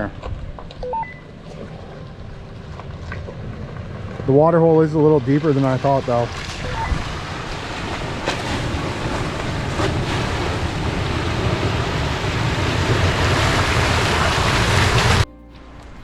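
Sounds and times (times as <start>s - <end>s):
low engine drone: 0.5s - 16.0s
water splashing against vehicle: 1.4s - 15.3s.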